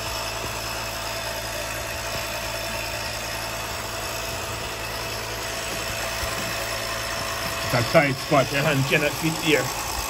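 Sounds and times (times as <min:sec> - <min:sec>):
smoke machine humming: 0:00.0 - 0:10.0.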